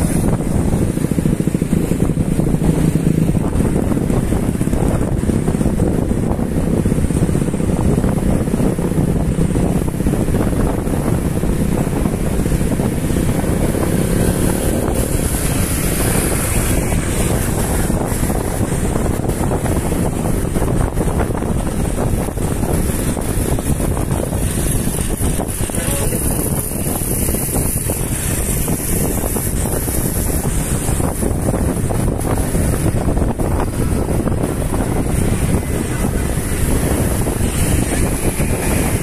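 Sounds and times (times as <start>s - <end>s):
motorbike engine: 0.0s - 39.0s
wind buffeting microphone: 0.0s - 39.0s.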